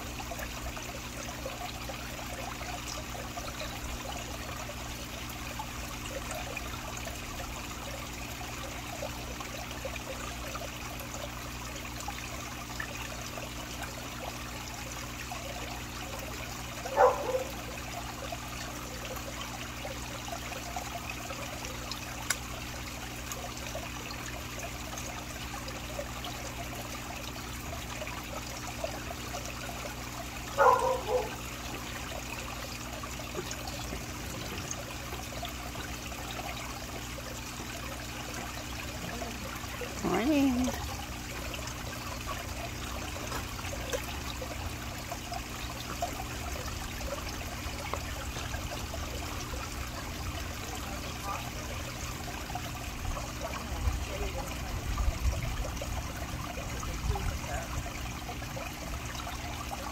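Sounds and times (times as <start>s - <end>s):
water trickling into pond: 0.0s - 59.9s.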